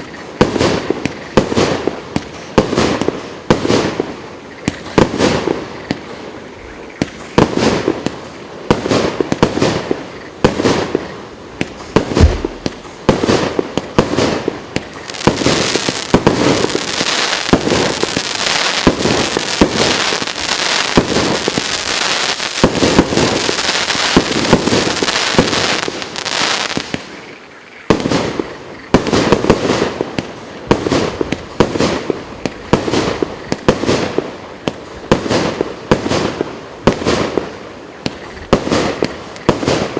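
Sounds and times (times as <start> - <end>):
fireworks battery firing shots: 7.0 - 27.2, 27.9 - 39.9.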